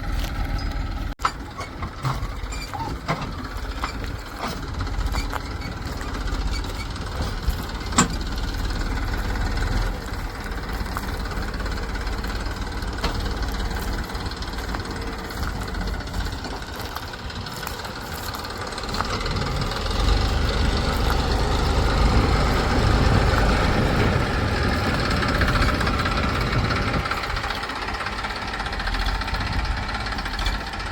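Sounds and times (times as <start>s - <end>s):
heavy diesel engine running: 0.0s - 30.9s.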